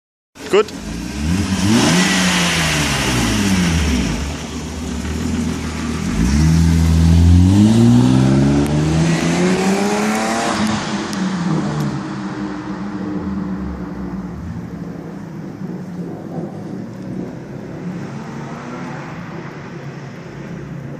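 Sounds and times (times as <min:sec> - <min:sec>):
car engine revving and idling: 0:00.4 - 0:20.9.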